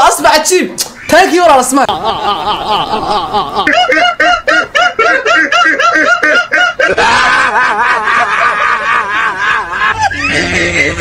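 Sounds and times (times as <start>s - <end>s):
high-pitched rhythmic laughter: 1.8s - 11.0s.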